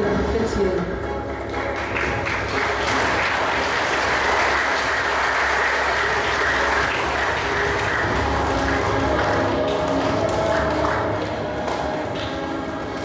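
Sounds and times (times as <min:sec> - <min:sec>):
audience applauding: 0:01.4 - 0:13.0.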